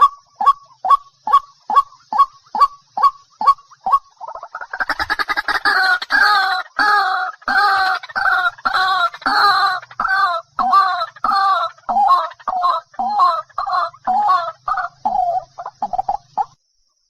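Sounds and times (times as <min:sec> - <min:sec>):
harsh croaking bird calls: 0:00.0 - 0:16.7.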